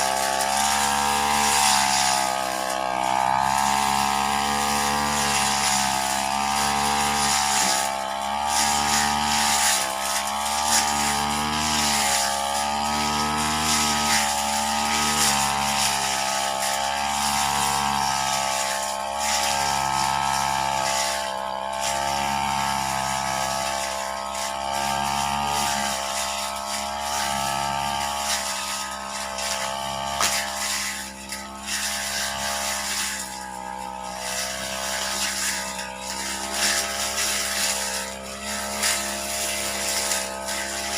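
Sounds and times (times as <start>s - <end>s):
brush cutter engine revving: 0.0s - 40.9s.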